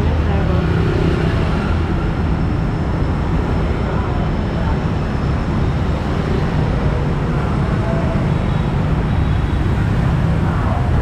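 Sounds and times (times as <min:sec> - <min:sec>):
motorbikes and cars passing: 0:00.0 - 0:11.0.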